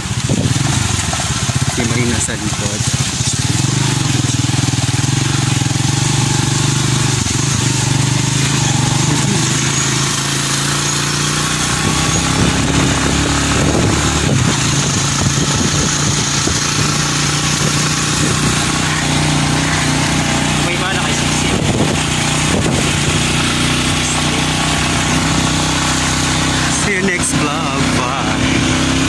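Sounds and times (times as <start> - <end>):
road and wind noise: 0.0 - 29.0
vehicle engine running: 0.0 - 29.0.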